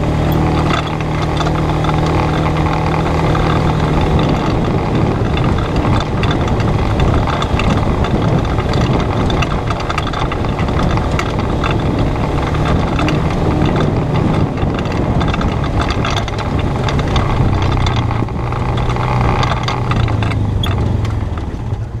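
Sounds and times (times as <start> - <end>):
engine running: 0.0 - 22.0
tyres crackling over stones: 0.0 - 22.0
vehicle rattling: 0.0 - 22.0.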